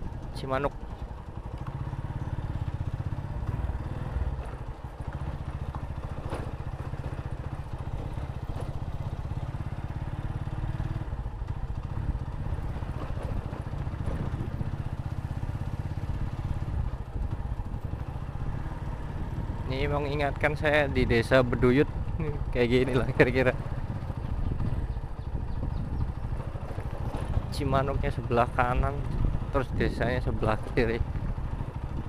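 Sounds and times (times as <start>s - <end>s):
motorcycle engine rumbling: 0.0s - 32.0s.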